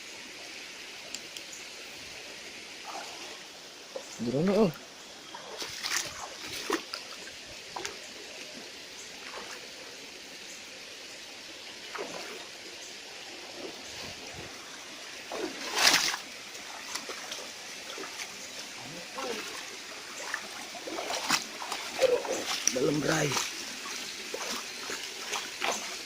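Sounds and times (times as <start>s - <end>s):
river water trickling: 0.0s - 26.0s
water splashes: 2.8s - 10.1s, 11.8s - 26.0s.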